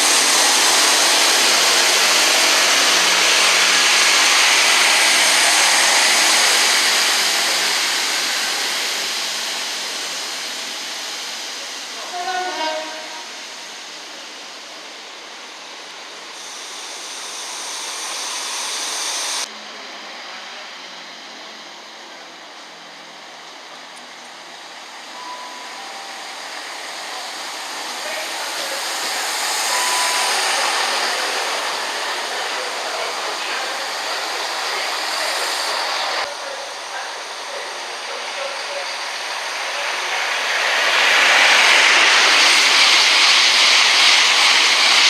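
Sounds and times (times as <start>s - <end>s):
train passing: 0.0s - 19.5s, 23.2s - 45.0s.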